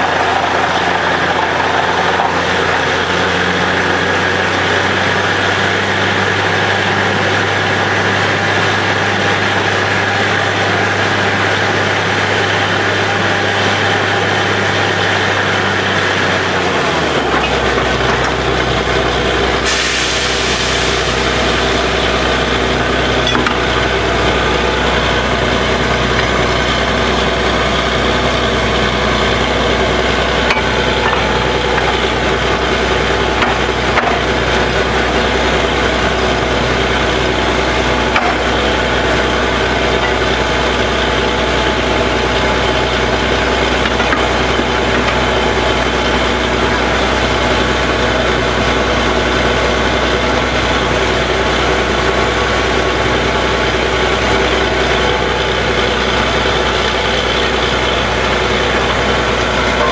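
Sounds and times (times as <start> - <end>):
drilling rig engine drone: 0.0 - 59.9.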